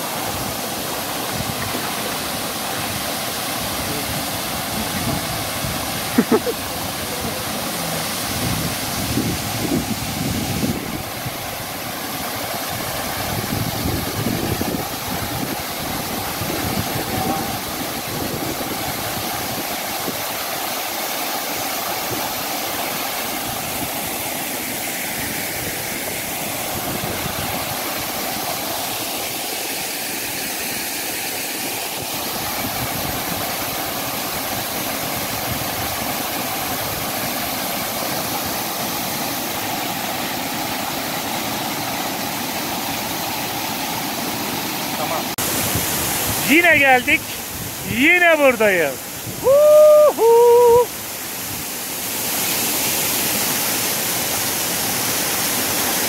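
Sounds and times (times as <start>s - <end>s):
waterfall pouring into a pool: 0.0s - 56.0s.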